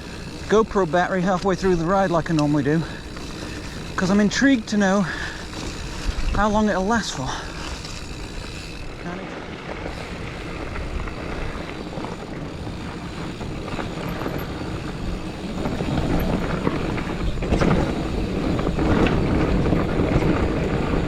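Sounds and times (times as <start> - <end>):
bike rattling over bumps: 0.0 - 21.0
bike tyres rolling over dirt: 0.0 - 21.0
wind rush on camera: 0.0 - 21.0.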